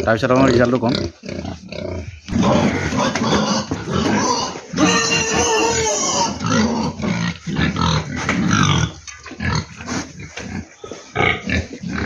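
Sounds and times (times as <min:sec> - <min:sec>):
pig grunting and squealing: 0:00.0 - 0:12.0.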